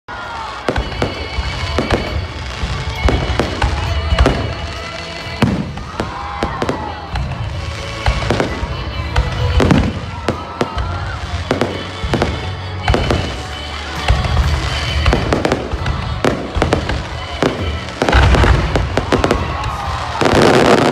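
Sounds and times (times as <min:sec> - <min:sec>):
fireworks bangs and crackles: 0:00.1 - 0:20.9
music playing: 0:00.1 - 0:20.9.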